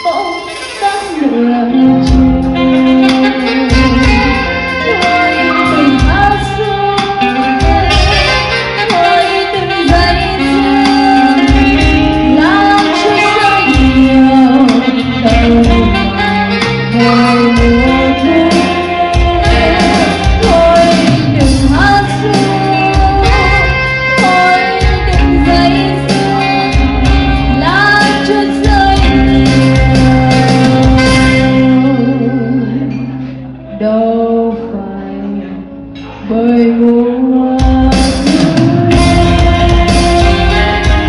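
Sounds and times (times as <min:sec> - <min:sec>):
band with keyboard and guitars: 0:00.0 - 0:41.0
woman singing into microphone: 0:00.0 - 0:41.0.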